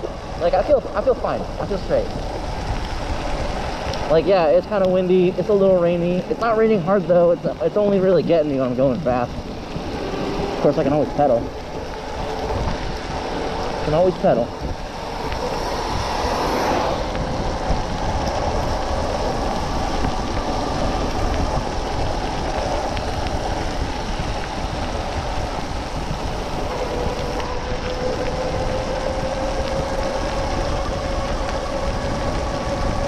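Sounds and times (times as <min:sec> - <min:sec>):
tyres hissing on wet road: 0:00.0 - 0:33.0
wind buffeting microphone: 0:00.0 - 0:33.0.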